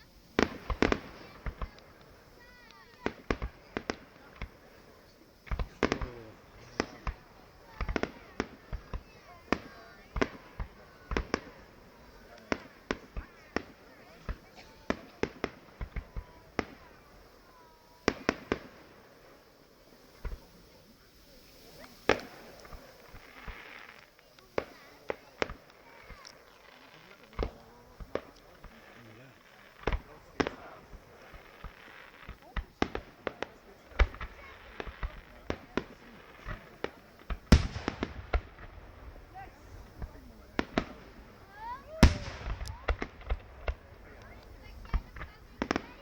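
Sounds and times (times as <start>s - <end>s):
fireworks bangs: 0.0s - 46.0s.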